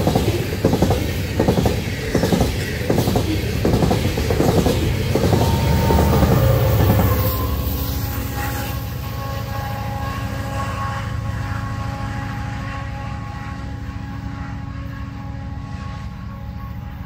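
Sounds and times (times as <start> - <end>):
constant whine: 0.0 - 17.0
diesel locomotive engine drone: 0.0 - 17.0.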